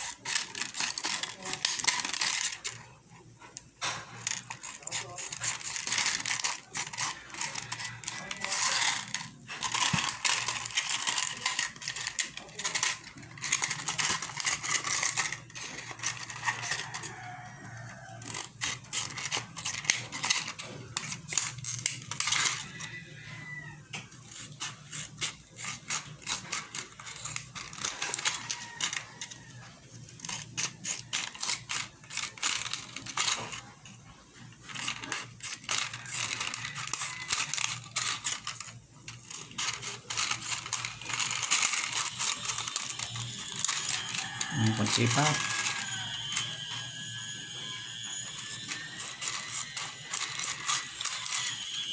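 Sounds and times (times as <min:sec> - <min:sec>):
scissors snipping plastic: 0:00.0 - 0:23.0, 0:23.8 - 0:51.9
plastic crackling: 0:00.0 - 0:51.9.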